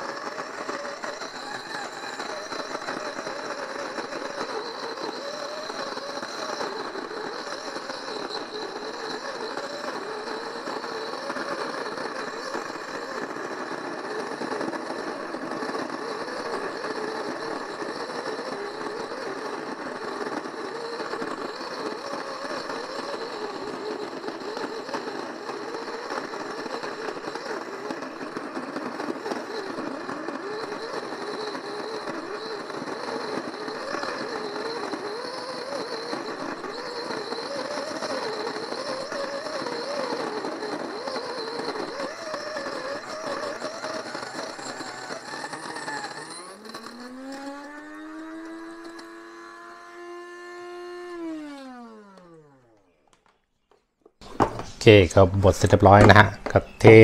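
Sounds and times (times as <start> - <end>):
electric coffee grinder running: 0.0 - 53.0.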